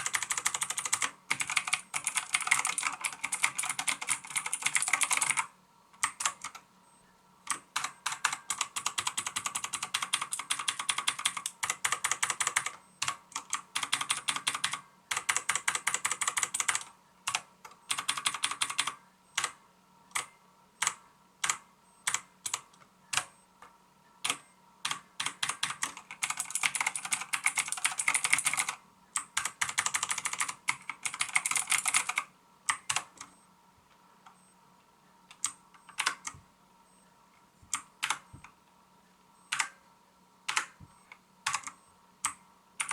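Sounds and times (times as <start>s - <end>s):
mechanical keyboard typing: 0.0s - 6.6s, 7.5s - 23.3s, 24.2s - 33.3s, 35.3s - 36.4s, 37.7s - 38.5s, 39.5s - 39.8s, 40.5s - 40.8s, 41.4s - 42.9s.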